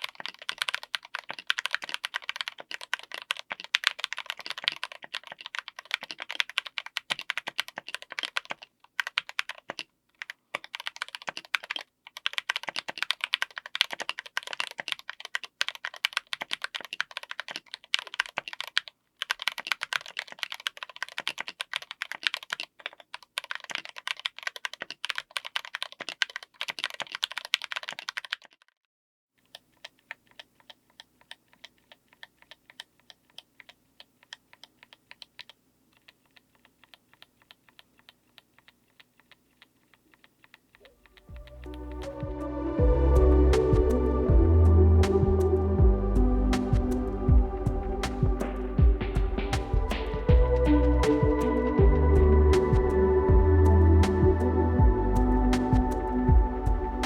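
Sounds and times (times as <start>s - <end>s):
typing on mechanical keyboard: 0.0s - 28.7s, 29.4s - 41.3s, 46.6s - 54.6s.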